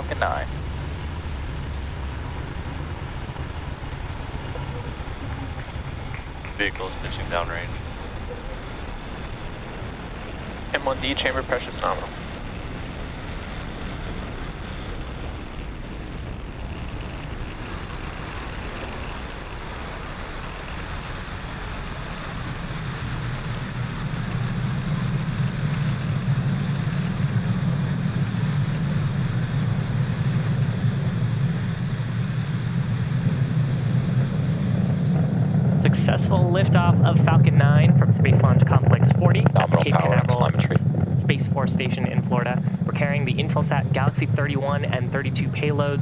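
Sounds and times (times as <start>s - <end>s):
low rumble: 0.0s - 46.0s
rocket engine roar: 0.0s - 46.0s.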